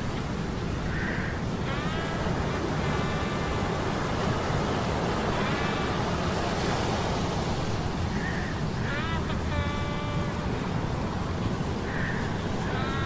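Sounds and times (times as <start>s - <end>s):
surf and wind rushing: 0.0s - 13.0s.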